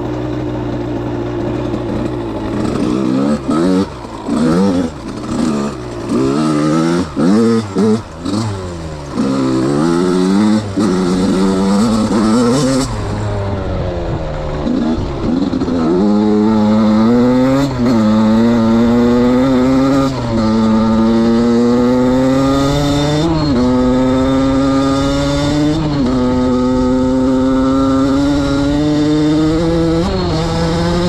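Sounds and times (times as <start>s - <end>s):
two-stroke engine running hard: 0.0s - 31.0s.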